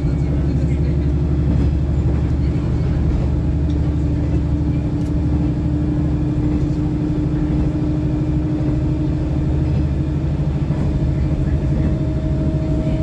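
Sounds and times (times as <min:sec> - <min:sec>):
train engine drone: 0:00.0 - 0:13.0.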